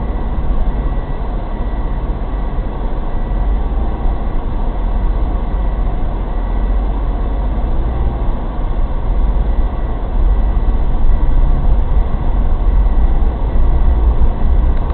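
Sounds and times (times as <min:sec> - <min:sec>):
vehicle engine rumble: 0:00.0 - 0:14.9.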